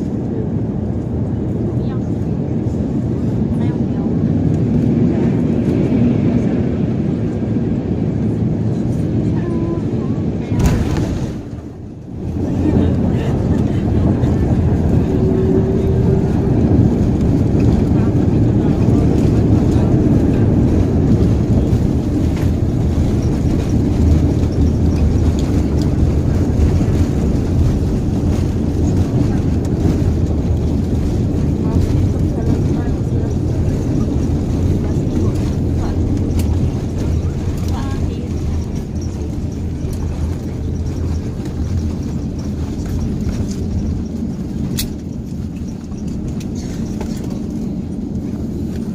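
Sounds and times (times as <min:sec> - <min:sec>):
jet cabin rumble: 0:00.0 - 0:48.9.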